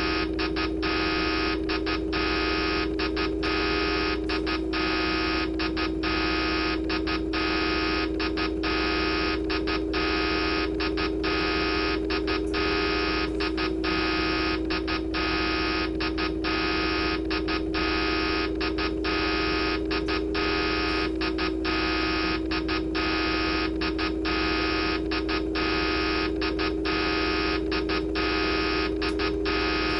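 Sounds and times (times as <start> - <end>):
harsh stuttering electronic buzz: 0.0 - 29.9
low electronic hum: 0.0 - 29.9.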